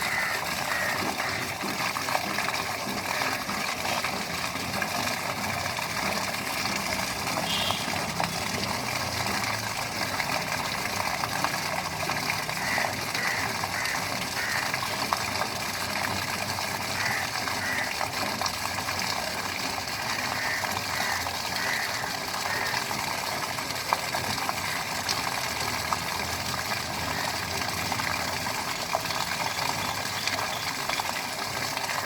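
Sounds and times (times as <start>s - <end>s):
running rainwater hiss: 0.0s - 32.0s.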